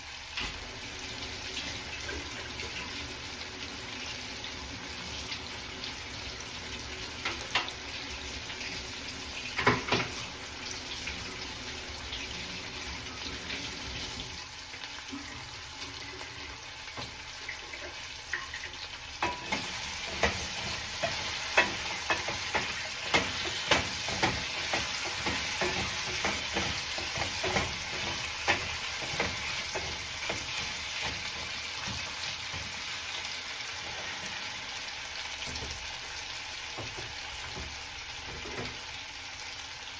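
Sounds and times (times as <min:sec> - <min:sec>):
potatoes sizzling in oil: 0:00.0 - 0:39.9.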